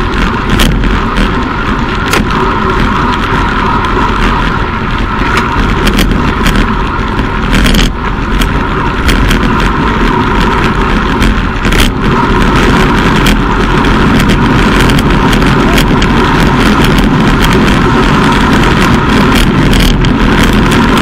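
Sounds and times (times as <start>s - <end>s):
bicycle tyre noise: 0.0s - 21.0s
wind buffeting microphone: 0.0s - 21.0s.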